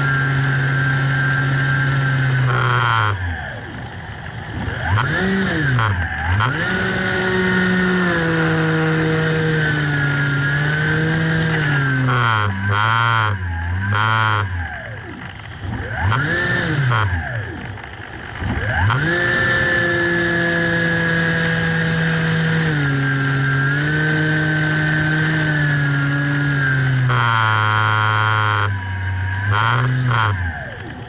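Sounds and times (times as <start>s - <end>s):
model plane motor and propeller: 0.0s - 31.0s.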